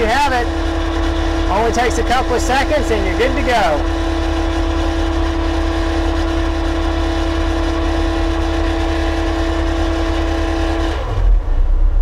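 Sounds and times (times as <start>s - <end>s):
constant machine whine: 0.0s - 12.0s
skid loader engine rumble: 0.0s - 12.0s.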